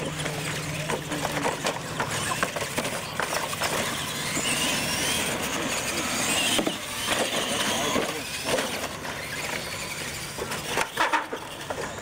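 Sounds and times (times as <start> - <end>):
toy truck motors whining: 0.0 - 12.0
trucks clattering over wooden ramps: 0.0 - 12.0.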